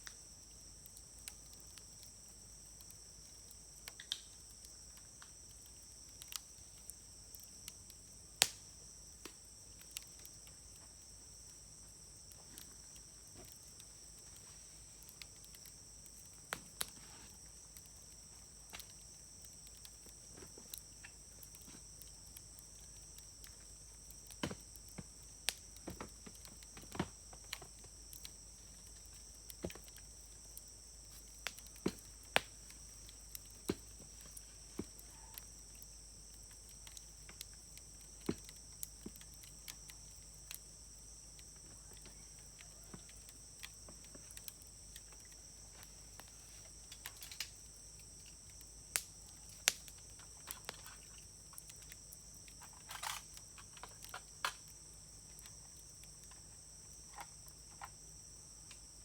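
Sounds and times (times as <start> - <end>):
insects trilling: 0.0 - 59.0
wood fire crackling and popping: 0.0 - 59.0.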